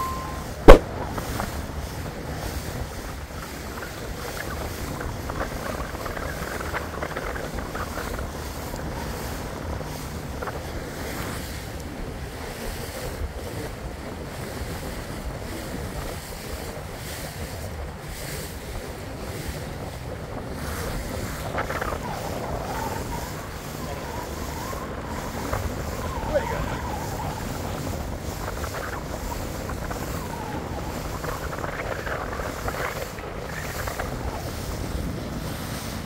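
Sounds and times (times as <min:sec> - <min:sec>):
water washing: 0:00.0 - 0:13.6, 0:19.6 - 0:36.0
wind buffeting microphone: 0:00.0 - 0:36.0.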